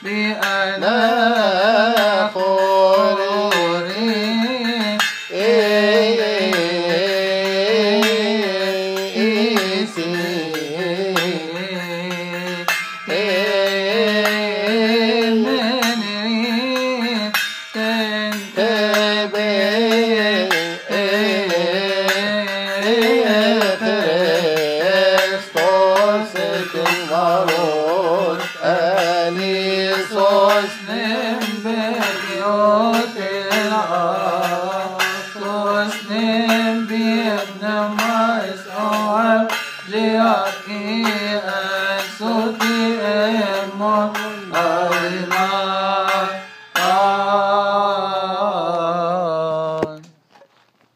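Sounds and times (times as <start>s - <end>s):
hand cymbals: 0.0s - 48.0s
man chanting a hymn: 0.0s - 50.2s.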